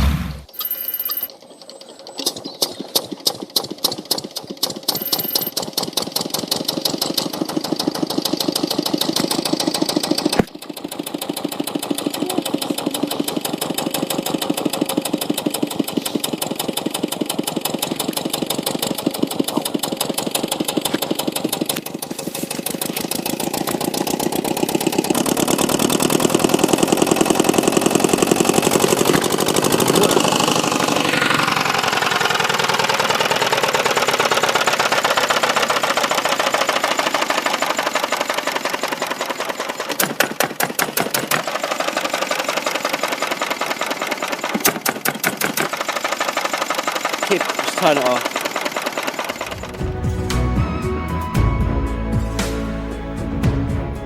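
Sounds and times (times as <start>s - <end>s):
engine firing pulses: 0.0s - 40.6s, 44.4s - 54.0s.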